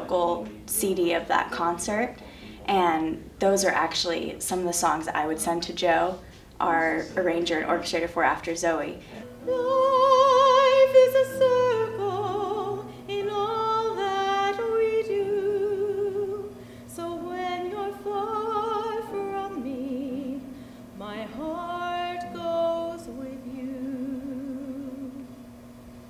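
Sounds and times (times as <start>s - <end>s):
woman singing with vibrato: 0.0s - 25.4s.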